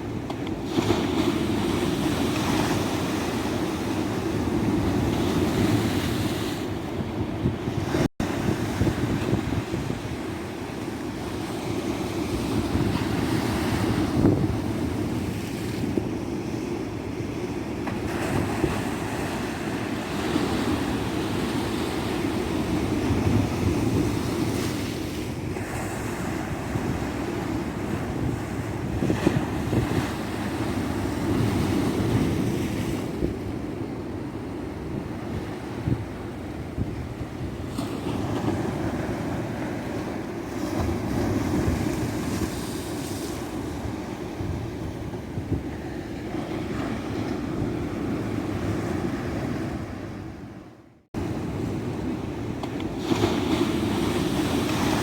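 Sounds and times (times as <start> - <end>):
wind buffeting microphone: 0.0 - 16.4, 18.0 - 25.0, 25.7 - 50.6
waves breaking on shore: 0.0 - 16.8, 17.5 - 55.0.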